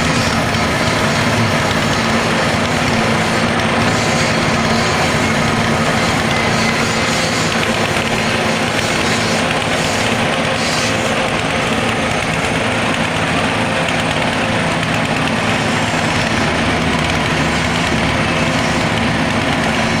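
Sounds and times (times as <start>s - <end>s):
crusher machine grinding: 0.0s - 20.0s.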